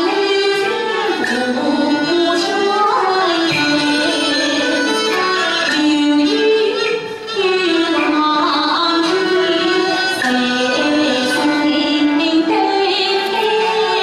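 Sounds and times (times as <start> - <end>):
instrumental accompaniment: 0.0 - 14.0
woman singing opera: 0.0 - 14.0.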